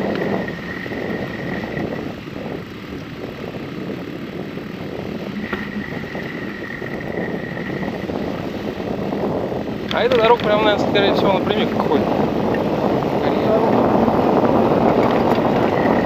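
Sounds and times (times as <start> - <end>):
bicycle tyre rumble on dirt: 0.0 - 16.0
thin high whine: 0.0 - 16.0
wind buffeting microphone: 0.0 - 16.0.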